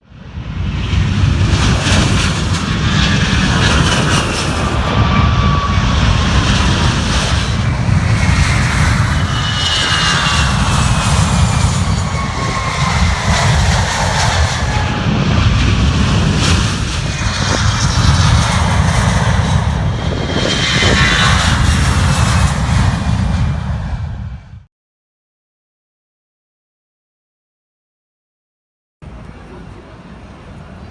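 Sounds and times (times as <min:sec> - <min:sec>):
jet airliner passing: 0:00.0 - 0:24.7, 0:29.0 - 0:30.9.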